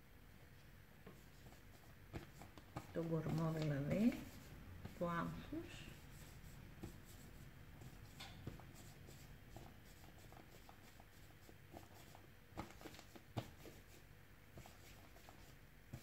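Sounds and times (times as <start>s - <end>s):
palms rolling clay on table: 1.0s - 14.0s.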